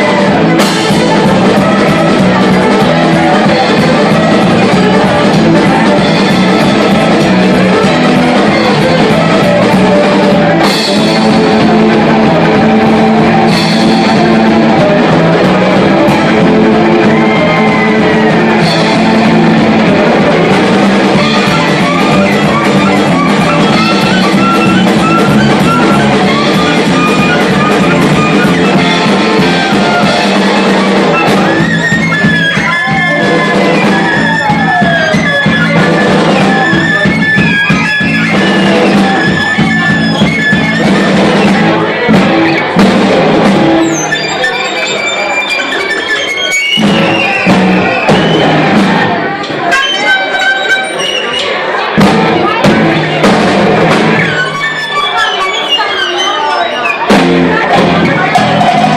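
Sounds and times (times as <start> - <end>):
acoustic band playing: 0.0 - 58.9
sliding lead melody: 0.0 - 58.9.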